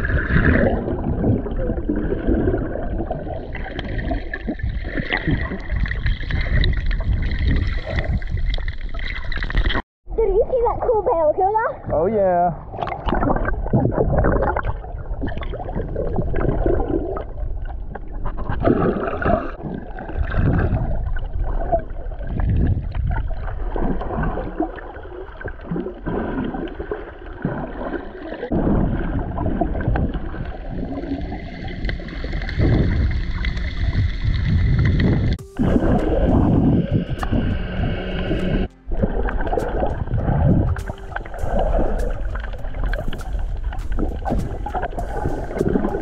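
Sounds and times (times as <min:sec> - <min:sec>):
muffled underwater sloshing and gurgling: 0:00.0 - 0:46.0.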